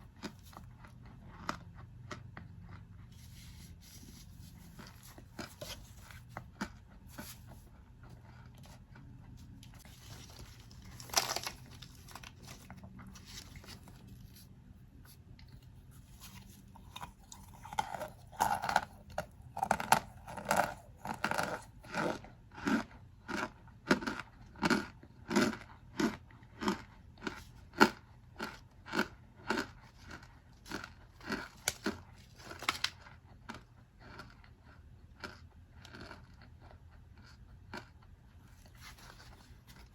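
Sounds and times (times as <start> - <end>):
cornstarch crunching: 0.0 - 14.2, 15.4 - 34.5.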